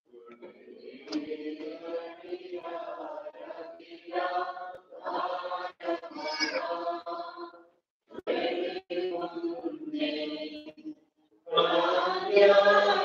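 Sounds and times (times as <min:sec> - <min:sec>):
church choir singing a hymn: 0:00.1 - 0:13.0.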